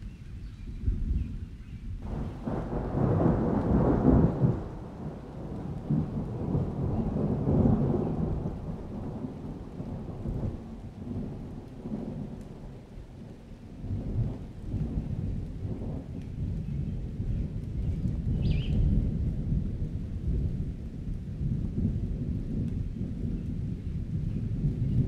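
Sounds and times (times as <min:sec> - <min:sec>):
rolling thunder: 0:00.6 - 0:25.0.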